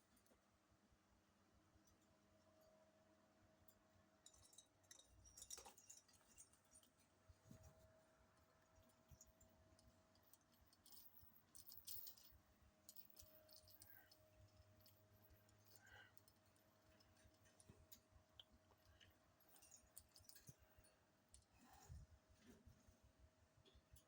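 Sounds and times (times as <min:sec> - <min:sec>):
faint steady hum: 0:00.0 - 0:24.0
faint clicks and rattles: 0:03.6 - 0:24.0.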